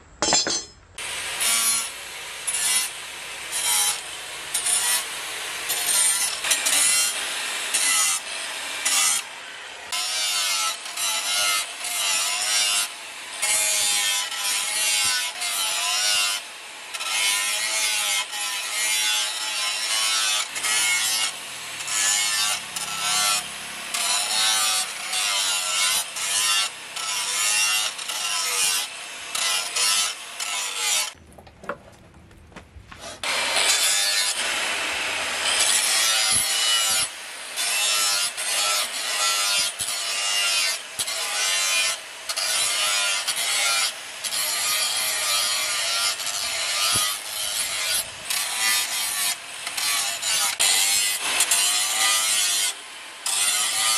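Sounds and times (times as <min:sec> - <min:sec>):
angle grinder grinding steel: 0:00.2 - 0:31.2, 0:32.9 - 0:53.9.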